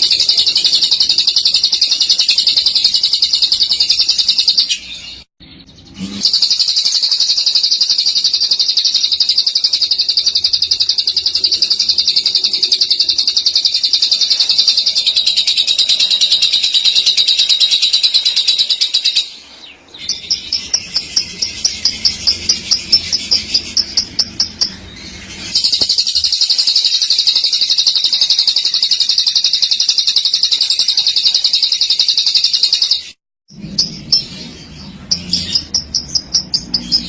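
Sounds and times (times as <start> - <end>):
lovebird chattering trill: 0.0 - 5.0, 5.7 - 19.4, 20.0 - 37.0
lovebird chirps: 0.0 - 37.0.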